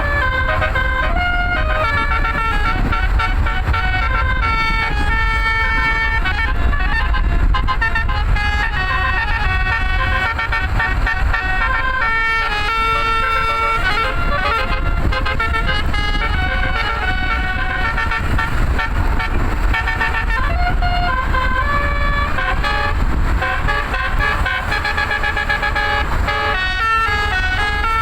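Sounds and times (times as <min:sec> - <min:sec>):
steady low rumble: 0:00.0 - 0:27.9
bus air horn playing melody: 0:00.0 - 0:28.0.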